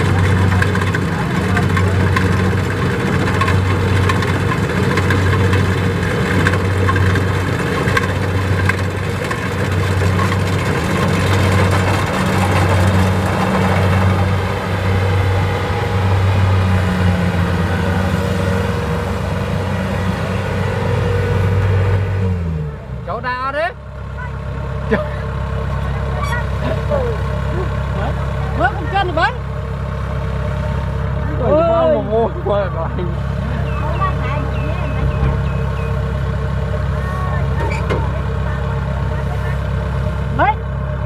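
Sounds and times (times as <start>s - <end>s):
diesel engine humming: 0.0s - 41.0s.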